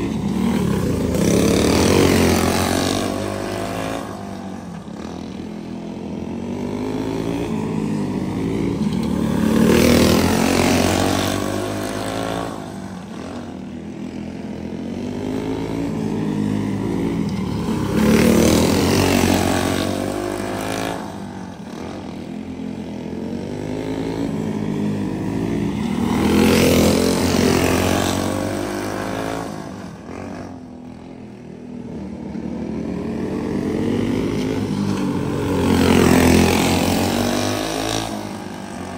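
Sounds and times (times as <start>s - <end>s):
race kart engines passing: 0.0s - 38.9s.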